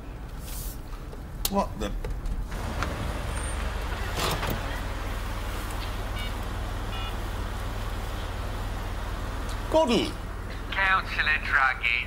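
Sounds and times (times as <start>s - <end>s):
car engine idling: 2.1s - 12.0s.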